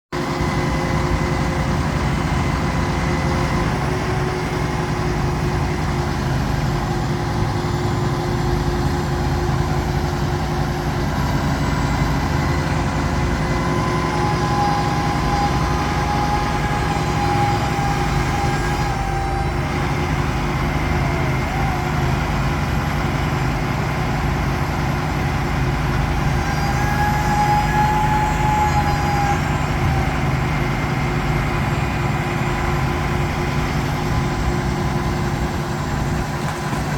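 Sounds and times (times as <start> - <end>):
heavy engine running steadily: 0.1 - 36.9.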